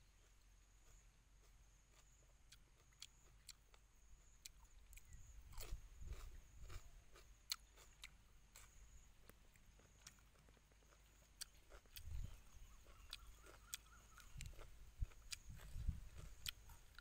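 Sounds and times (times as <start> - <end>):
crisp chewing crunches: 0.0 - 17.0.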